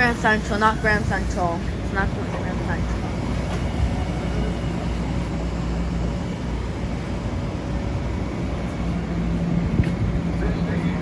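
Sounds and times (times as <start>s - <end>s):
electric train humming and rumbling: 0.0s - 11.0s.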